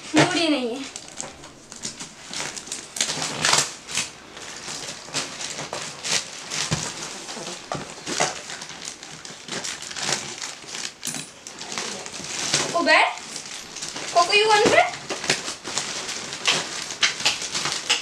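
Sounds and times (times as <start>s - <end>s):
plastic bag crinkling and tearing: 0.4s - 18.0s.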